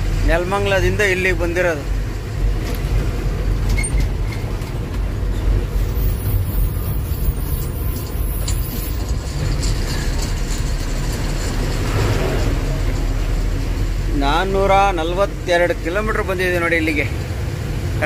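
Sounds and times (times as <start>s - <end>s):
lorry engine rumble: 0.0s - 18.0s
road noise: 0.0s - 18.0s.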